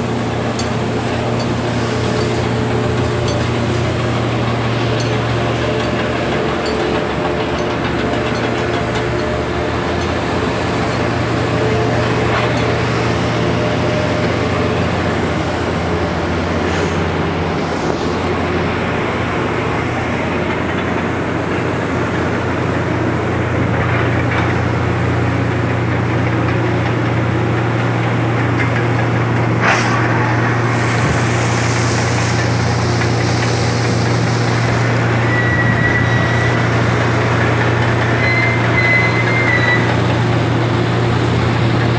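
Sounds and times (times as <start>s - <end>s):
heavy machinery rattling: 0.0s - 41.9s.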